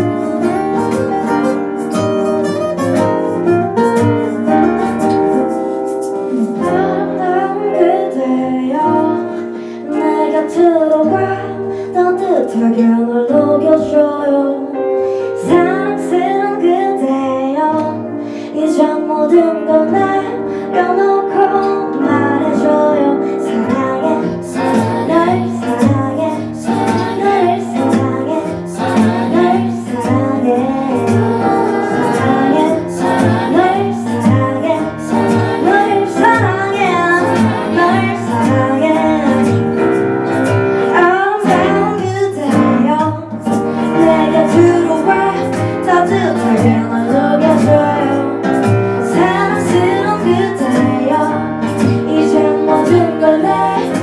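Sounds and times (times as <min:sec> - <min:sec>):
acoustic guitars: 0:00.0 - 0:54.0
keyboard: 0:00.0 - 0:54.0
woman singing: 0:06.3 - 0:40.0, 0:40.8 - 0:54.0.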